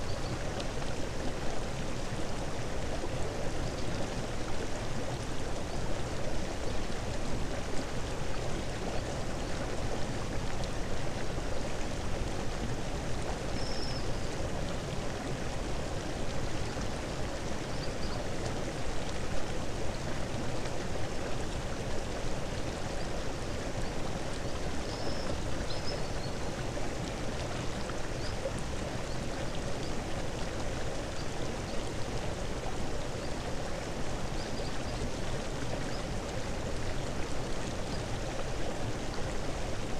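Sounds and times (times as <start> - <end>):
rushing stream: 0.0 - 39.9.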